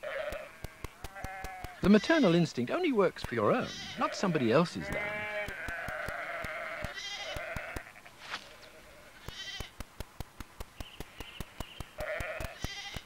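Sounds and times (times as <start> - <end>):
sheep and lambs bleating: 0.0 - 9.8, 11.9 - 13.0
sharp ticks: 0.3 - 8.1, 9.1 - 13.0.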